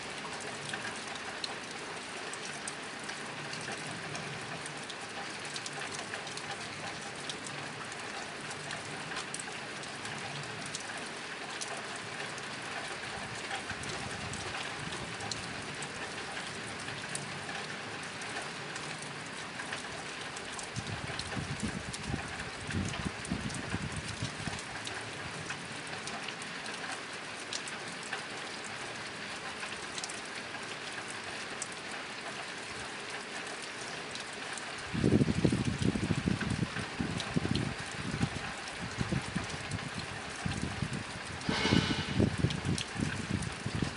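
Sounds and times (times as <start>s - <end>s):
rain on a tin roof: 0.0s - 43.9s.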